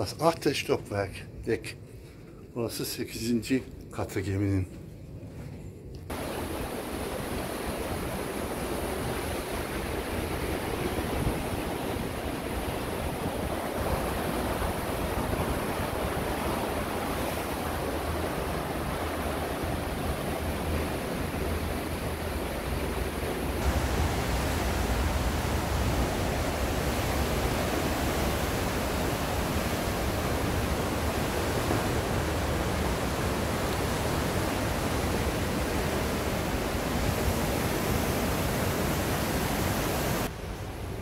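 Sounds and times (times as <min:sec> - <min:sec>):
wind: 0:00.0 - 0:41.0
sea: 0:05.6 - 0:41.0.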